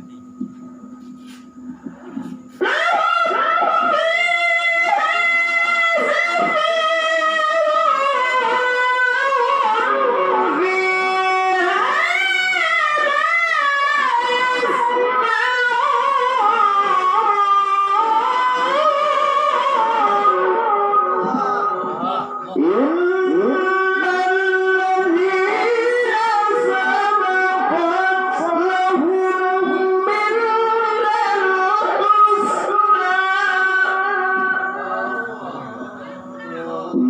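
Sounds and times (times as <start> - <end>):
solo voice melodic recitation: 2.6 - 37.0.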